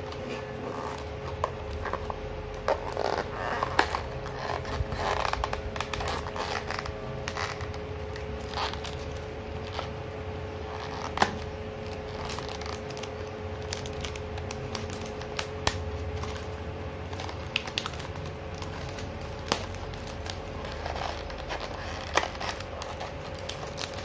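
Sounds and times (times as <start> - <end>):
faint steady hum: 0.0 - 24.0
plastic wrap crinkling and tearing: 0.0 - 24.0.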